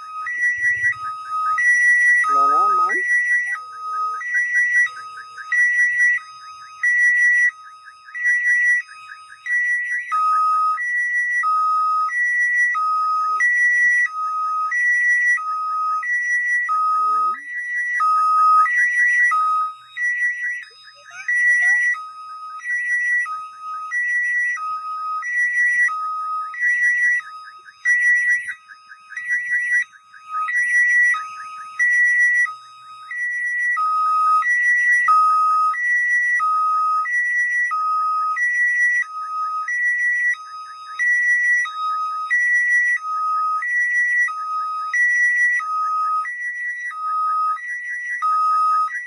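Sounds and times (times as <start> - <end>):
level crossing two-tone alarm: 0.0 - 49.0.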